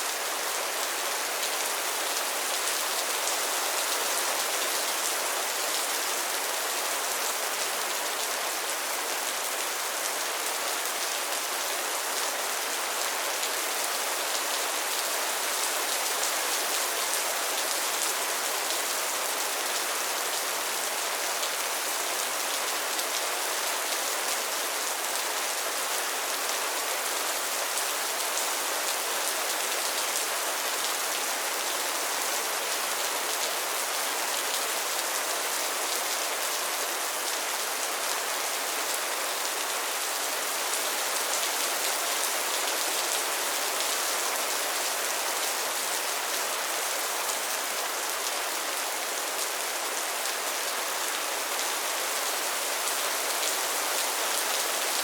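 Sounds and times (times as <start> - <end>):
rain falling on pond water: 0.0 - 55.0.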